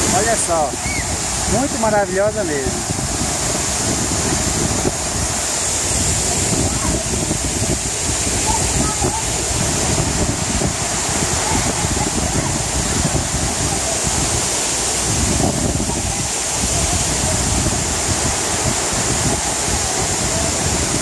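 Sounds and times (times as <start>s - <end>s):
waterfall rushing into a pool: 0.0s - 21.0s.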